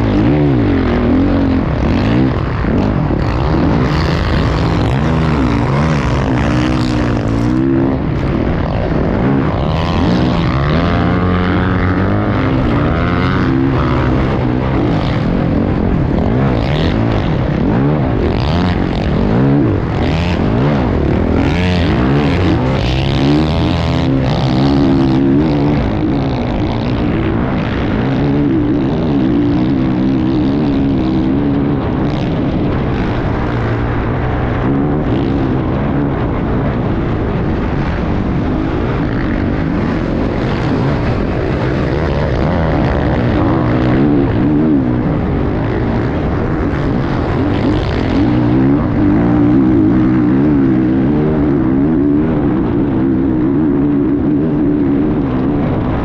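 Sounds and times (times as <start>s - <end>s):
motorcycle engine revving hard: 0.0s - 56.0s.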